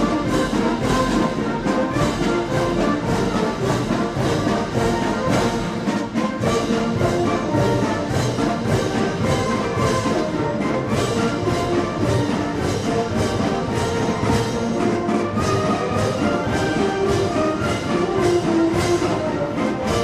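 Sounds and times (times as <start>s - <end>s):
brass band playing a march: 0.0s - 20.0s.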